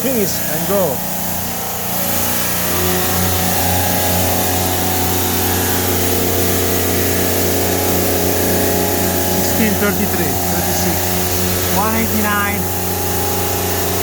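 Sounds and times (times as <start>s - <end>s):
milling machine humming with pulse: 0.0s - 14.0s.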